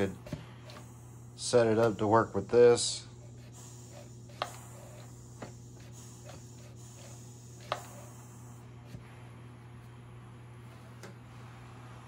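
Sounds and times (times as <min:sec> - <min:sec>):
steam mop humming: 0:00.0 - 0:12.0.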